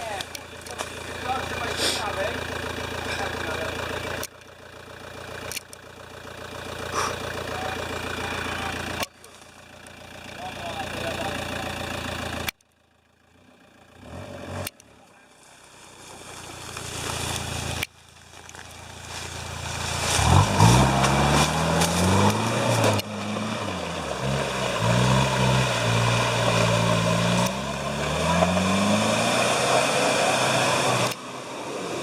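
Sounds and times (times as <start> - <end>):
off-road vehicle engine revving: 0.0 - 12.6, 13.2 - 32.0
vehicle working through terrain: 0.0 - 32.0.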